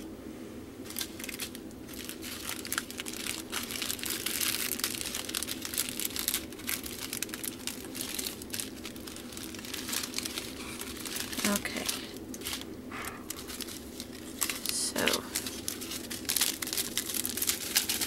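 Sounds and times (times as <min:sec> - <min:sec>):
plastic packets crinkling: 0:00.8 - 0:18.0.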